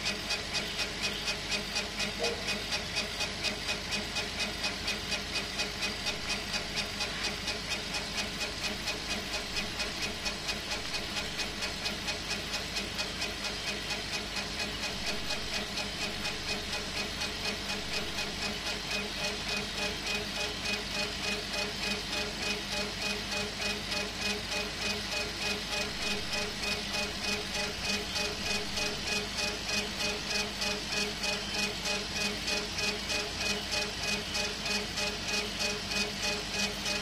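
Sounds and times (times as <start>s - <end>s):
machine hum: 5.2s - 37.0s.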